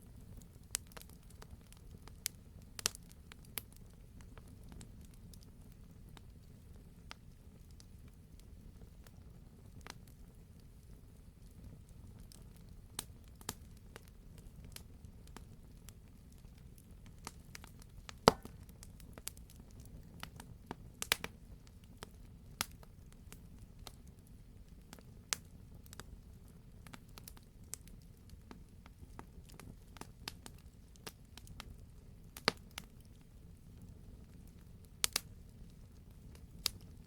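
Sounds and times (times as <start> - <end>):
fire crackling and popping: 0.0 - 37.0
fire low rumble: 0.0 - 37.0.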